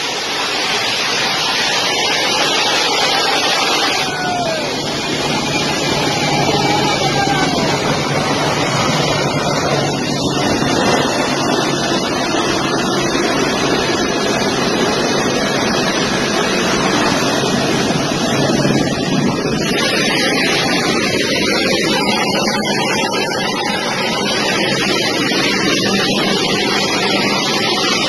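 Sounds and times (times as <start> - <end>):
jet engines running: 0.0 - 28.0
wind buffeting microphone: 0.1 - 28.0.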